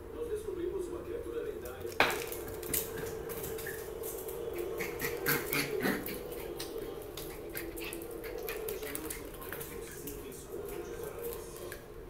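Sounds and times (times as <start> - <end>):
dog claws clicking on wooden floor: 1.6 - 11.9.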